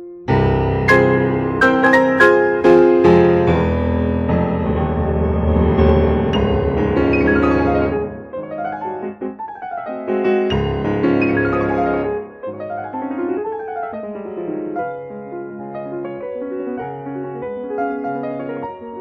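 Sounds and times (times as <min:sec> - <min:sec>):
fast grand piano arpeggios: 0:00.0 - 0:19.0
heavy piano bass chords: 0:00.0 - 0:19.0.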